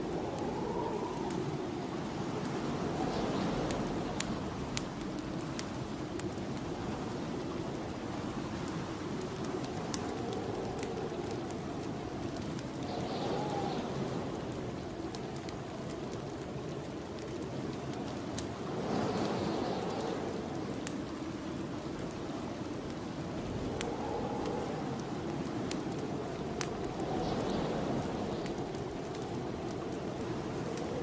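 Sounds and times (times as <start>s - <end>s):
wind blowing: 0.0s - 31.0s
wood fire crackling: 0.0s - 31.0s.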